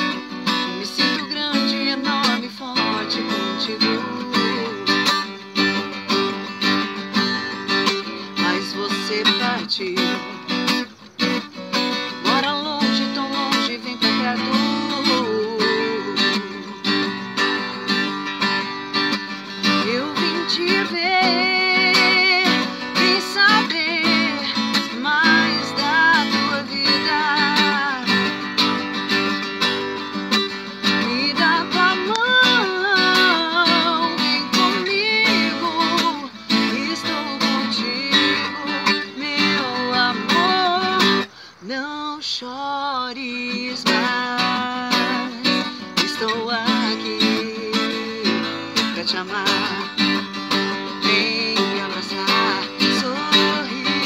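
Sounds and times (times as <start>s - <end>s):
woman singing with vibrato: 0.0s - 6.4s, 7.2s - 11.4s, 12.0s - 18.0s, 19.5s - 28.8s, 30.7s - 54.0s
strummed acoustic guitar: 0.0s - 54.0s.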